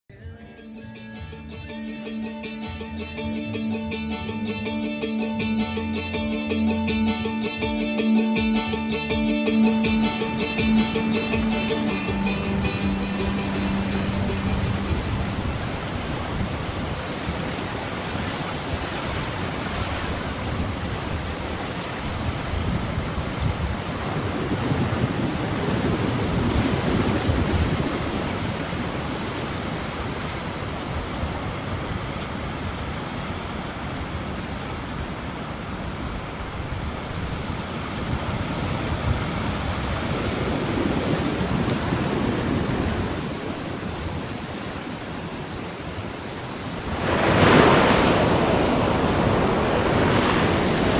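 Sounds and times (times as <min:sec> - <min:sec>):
surf breaking against cliffs: 0:07.3 - 0:50.9.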